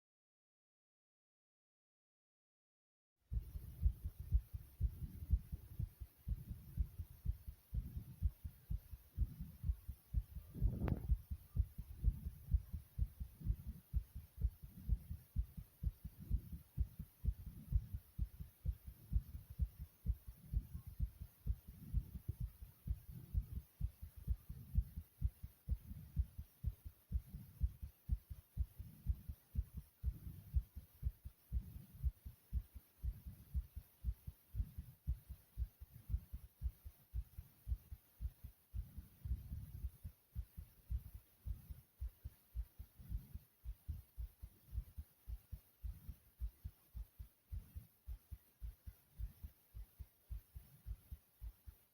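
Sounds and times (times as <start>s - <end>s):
heartbeat thumps: 3.3s - 51.9s.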